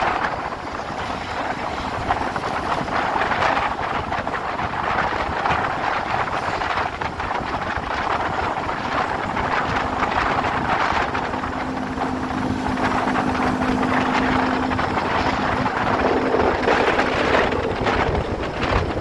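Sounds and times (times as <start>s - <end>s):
engine hum: 0.0s - 19.0s
road noise: 0.0s - 19.0s
wind on microphone: 0.0s - 19.0s.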